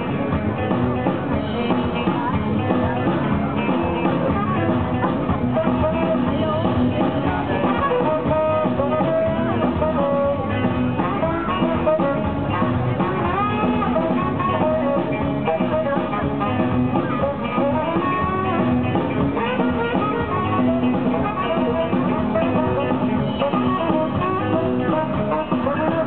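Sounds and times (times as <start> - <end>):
live rock band playing: 0.0 - 26.0
saxophone melody: 4.1 - 26.0.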